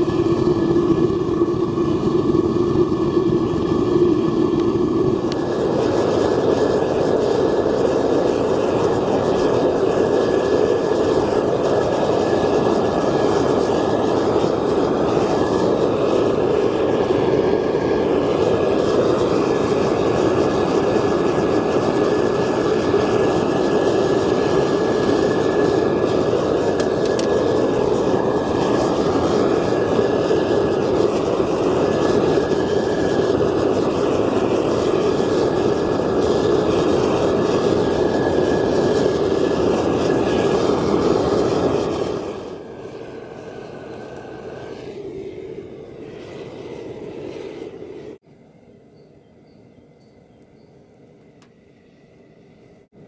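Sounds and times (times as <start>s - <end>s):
furnace roaring: 0.0s - 48.2s.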